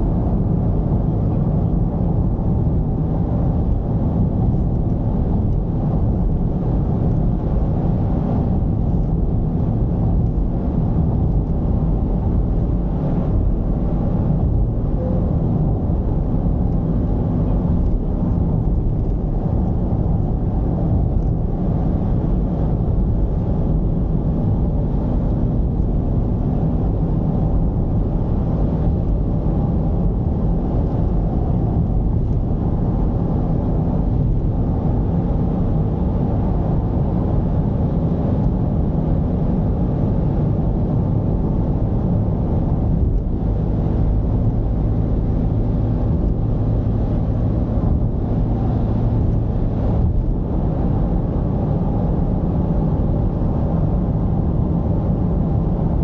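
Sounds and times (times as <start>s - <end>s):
diesel car engine running: 0.0s - 56.0s
road noise: 0.0s - 56.0s.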